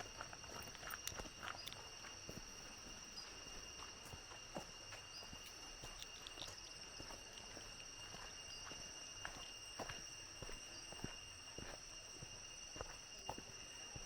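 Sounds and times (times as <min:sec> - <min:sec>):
footsteps on trail: 0:00.0 - 0:14.0
high-pitched insect drone: 0:00.0 - 0:14.0.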